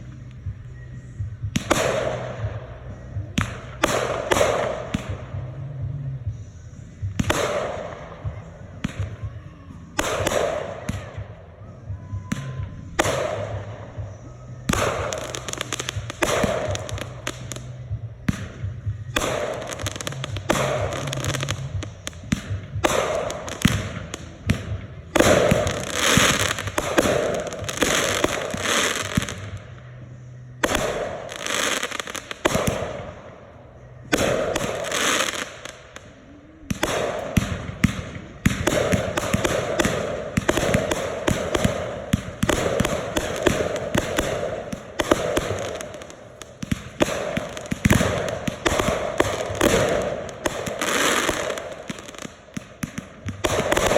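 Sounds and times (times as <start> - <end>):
fireworks popping and crackling: 0.0 - 53.9.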